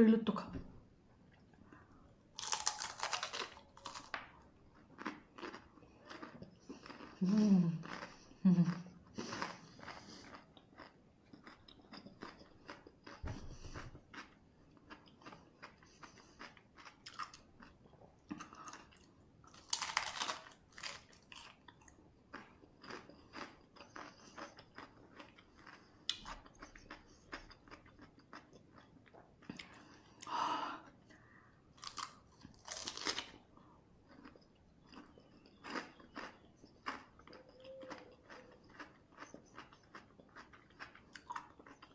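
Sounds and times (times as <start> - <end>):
crunching and chewing cucumber: 2.4 - 30.3, 31.7 - 41.9.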